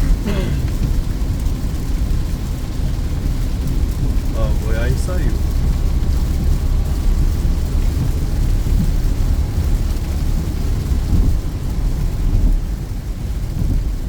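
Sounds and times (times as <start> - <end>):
rain hiss: 0.0 - 14.0
tyres on wet road and engine: 0.0 - 14.0.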